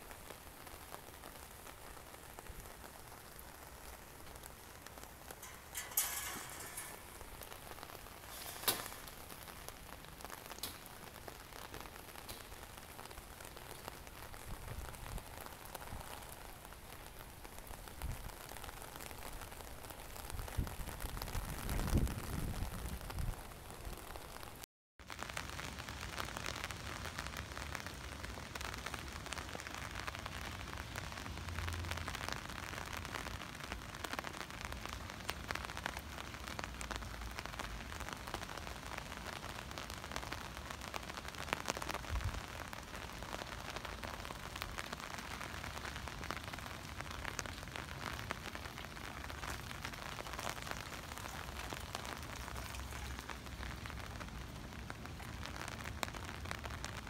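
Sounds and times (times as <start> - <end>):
heavy rain on pavement and cars: 0.0 - 57.0.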